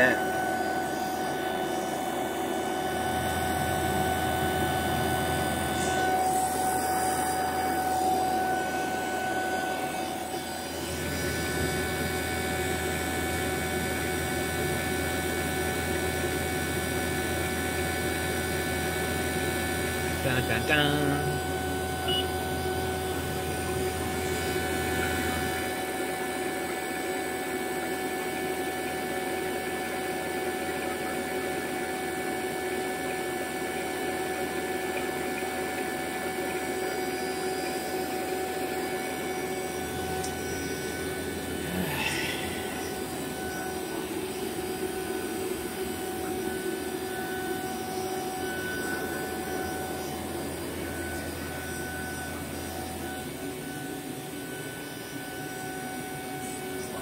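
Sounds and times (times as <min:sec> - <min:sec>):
vacuum pump running: 0:00.0 - 0:57.0.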